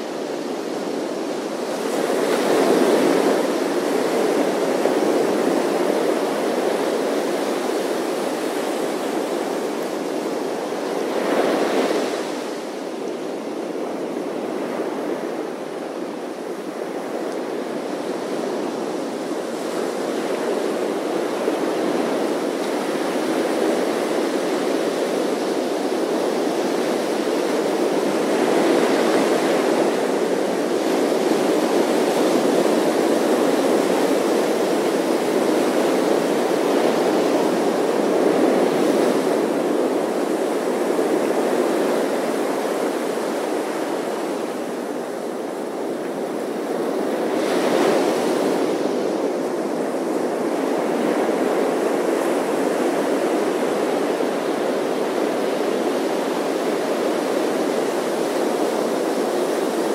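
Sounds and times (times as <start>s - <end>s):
ocean surf washing up beach: 0.0s - 59.9s.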